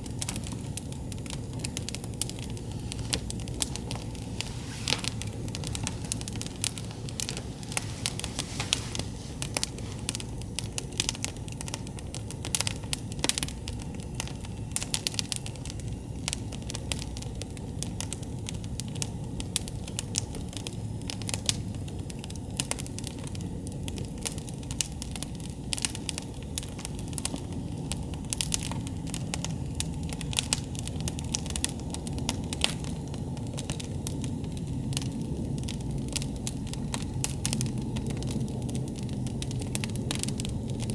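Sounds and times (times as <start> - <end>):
campfire wood crackling: 0.0 - 40.9.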